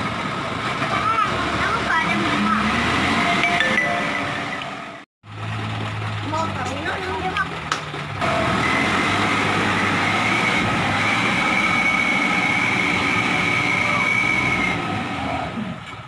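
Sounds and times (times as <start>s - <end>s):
dump truck engine under load: 0.0s - 16.0s.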